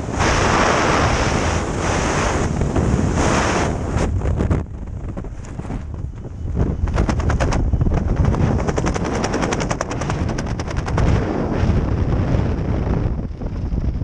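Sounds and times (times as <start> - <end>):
wind buffeting microphone: 0.0 - 14.0
parachute fabric flapping: 0.2 - 11.8.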